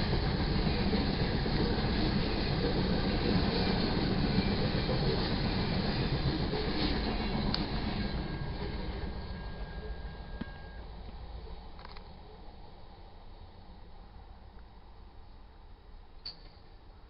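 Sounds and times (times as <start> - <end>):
freight train wheels rumbling: 0.0 - 15.2.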